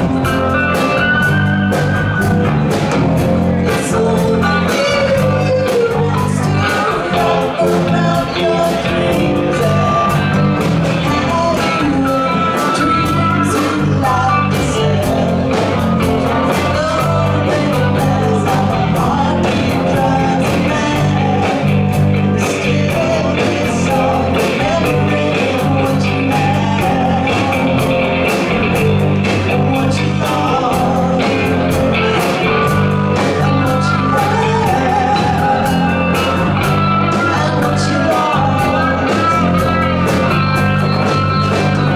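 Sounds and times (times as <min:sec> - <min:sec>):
bass guitar: 0:00.0 - 0:41.9
drum kit: 0:00.0 - 0:41.9
electric guitars: 0:00.0 - 0:41.9
person singing: 0:00.0 - 0:41.9.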